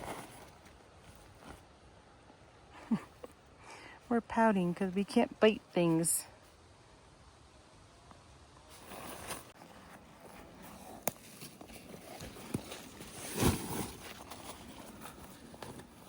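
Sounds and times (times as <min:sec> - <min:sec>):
rustling movement in a tent: 0:00.0 - 0:06.7, 0:07.9 - 0:16.0.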